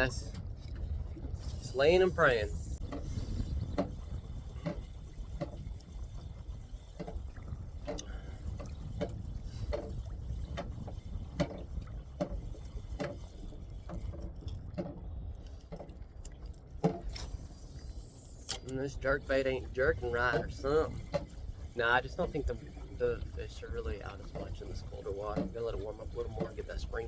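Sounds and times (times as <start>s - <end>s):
water lapping against kayak hull: 0.0s - 27.0s
knocks and splashes: 2.8s - 17.5s, 18.5s - 27.0s.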